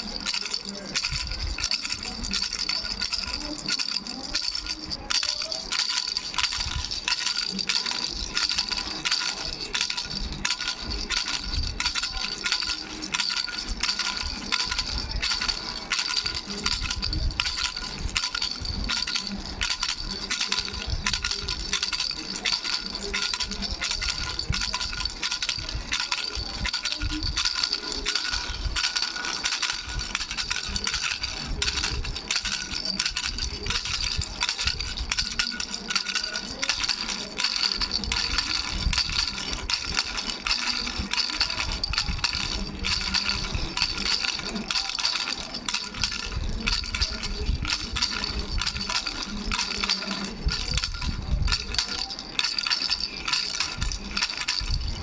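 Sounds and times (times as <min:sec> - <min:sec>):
baby rattle bells jingling: 0:00.0 - 0:55.0.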